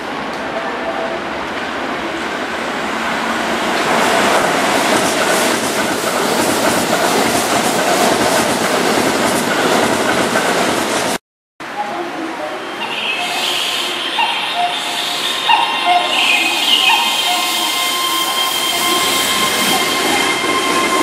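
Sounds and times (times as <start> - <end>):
electric train running past: 0.0 - 21.0.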